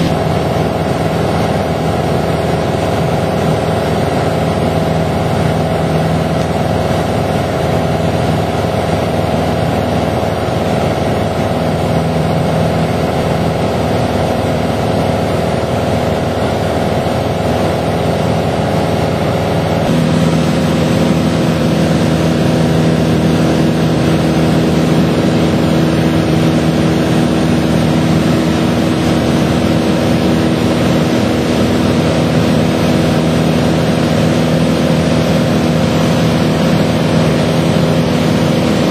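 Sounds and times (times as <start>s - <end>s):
aircraft engine drone in cabin: 0.0s - 38.9s.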